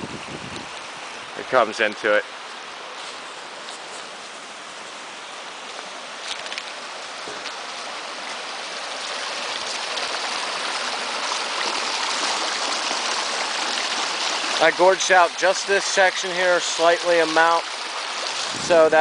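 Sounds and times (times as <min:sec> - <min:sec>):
brook water rushing over stones: 0:00.0 - 0:19.0.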